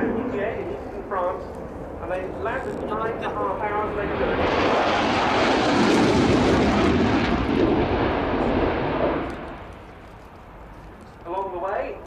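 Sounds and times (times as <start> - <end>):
fighter jet passing in afterburner: 0.0 - 10.0.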